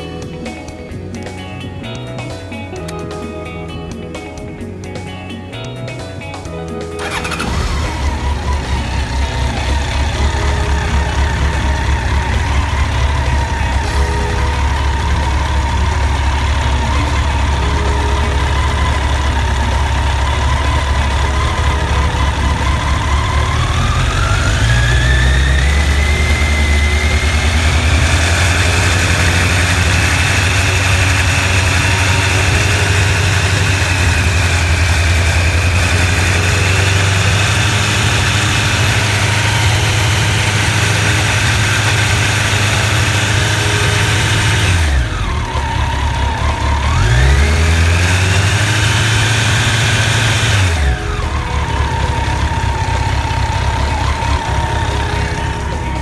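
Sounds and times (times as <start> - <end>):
motorcycle engine revving: 6.9 - 56.0.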